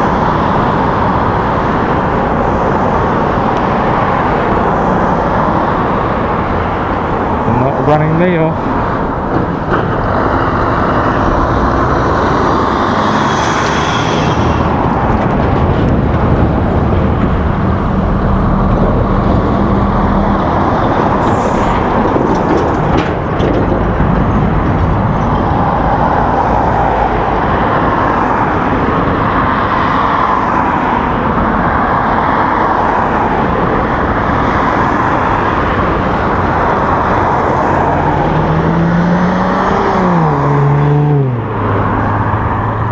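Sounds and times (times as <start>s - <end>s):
low engine hum: 0.0s - 42.9s
road traffic noise: 0.0s - 42.9s.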